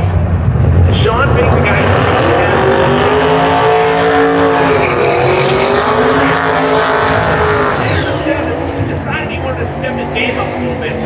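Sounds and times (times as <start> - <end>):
race car engine at high revs: 0.0 - 11.0
tires squealing: 0.8 - 11.0.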